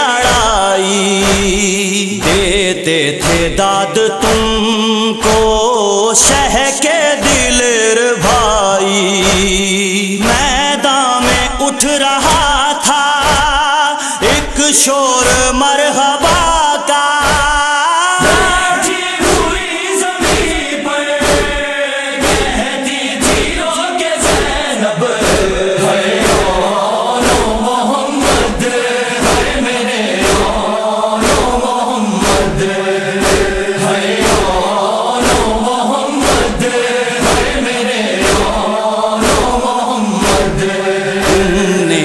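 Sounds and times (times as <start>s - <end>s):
steady regular beat: 0.0s - 15.6s, 16.2s - 42.0s
men chanting a lament: 0.0s - 42.0s.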